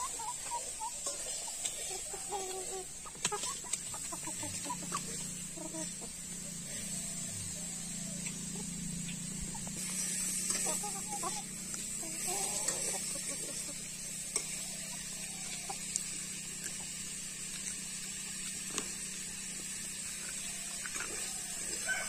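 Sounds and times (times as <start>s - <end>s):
chickens clucking: 0.0s - 22.0s
steady high hiss: 0.0s - 22.0s.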